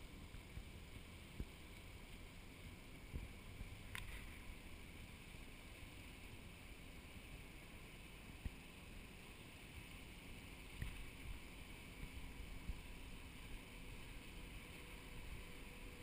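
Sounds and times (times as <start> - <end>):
distant boat engine drone: 0.0 - 16.0
low fuzzy rumble: 0.0 - 16.0.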